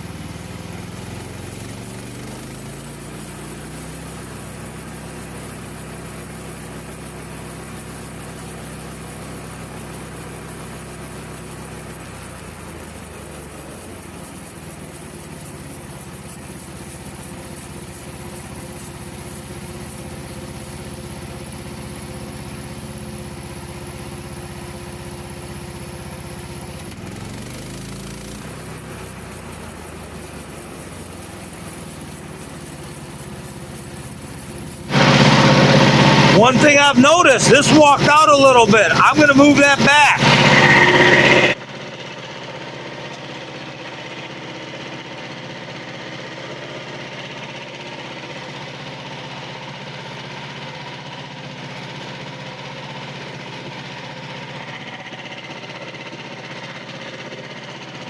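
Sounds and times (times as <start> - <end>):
bandsaw mill engine droning: 0.0 - 58.0.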